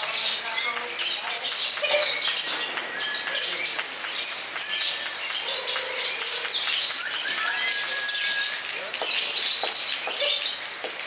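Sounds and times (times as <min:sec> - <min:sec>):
lovebirds chattering and trilling: 0:00.0 - 0:11.0.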